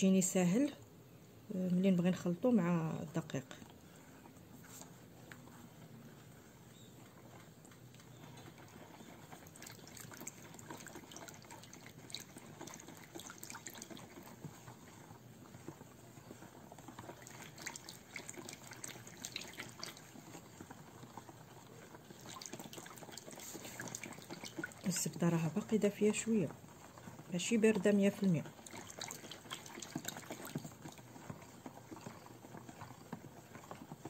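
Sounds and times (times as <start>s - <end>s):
liquid sloshing in bowl: 3.4s - 34.0s.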